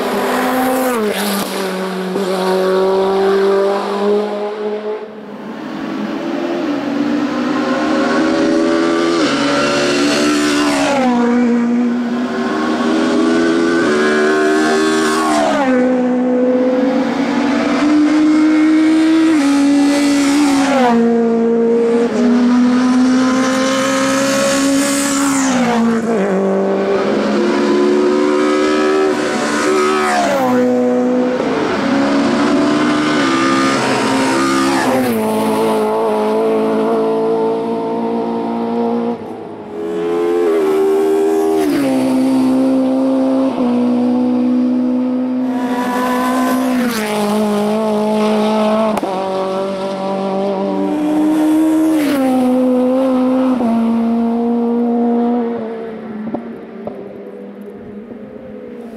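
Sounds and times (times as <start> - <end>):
racing car engines accelerating: 0.0 - 58.9.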